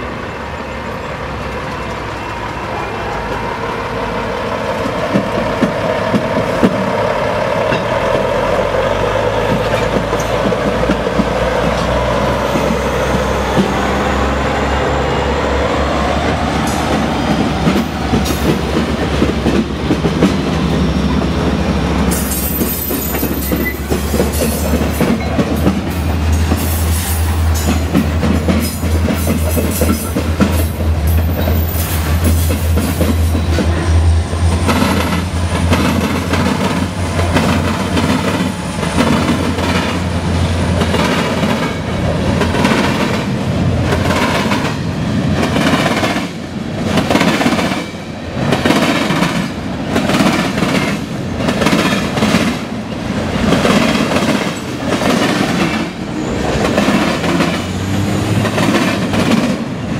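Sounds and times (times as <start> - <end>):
train wheels clickety-clack: 1.3 - 59.9.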